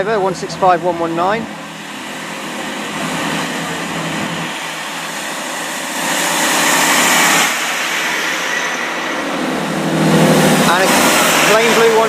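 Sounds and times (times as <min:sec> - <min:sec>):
diesel train passing: 0:00.0 - 0:12.0.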